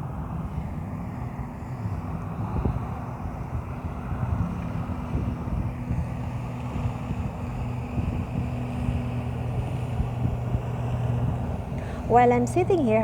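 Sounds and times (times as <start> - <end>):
motorboat engine droning: 0.0 - 13.0
wind buffeting microphone: 0.0 - 13.0.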